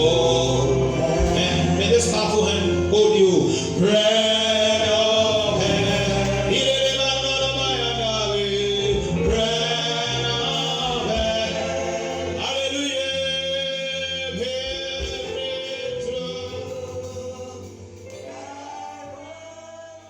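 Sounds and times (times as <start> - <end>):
church voices singing a hymn: 0.0 - 20.0
musical accompaniment: 0.0 - 20.0.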